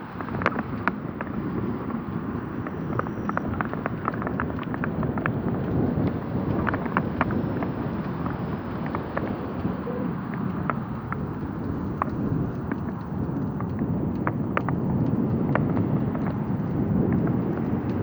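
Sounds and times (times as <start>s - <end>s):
sharp ticks and clicks: 0.0s - 18.0s
wind buffeting microphone: 0.0s - 18.0s.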